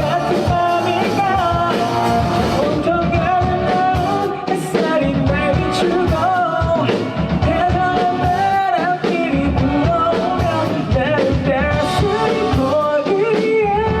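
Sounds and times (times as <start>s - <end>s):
live band playing: 0.0s - 14.0s
man singing pop-rock song: 0.0s - 14.0s.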